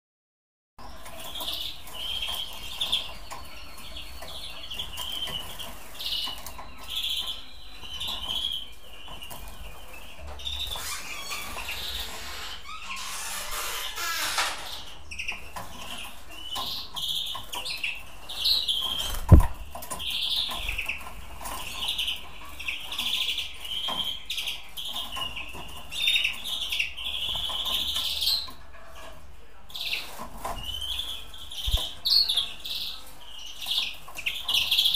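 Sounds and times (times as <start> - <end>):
young birds chirping: 0.8 - 34.9.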